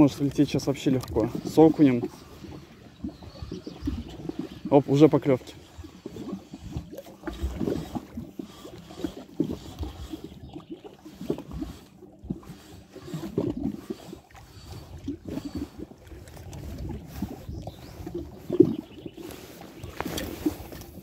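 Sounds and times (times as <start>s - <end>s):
water lapping and sloshing: 0.0s - 21.0s.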